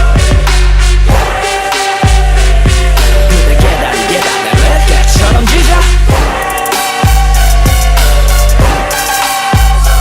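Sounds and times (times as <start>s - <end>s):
hip-hop instrumental beat: 0.0s - 10.0s.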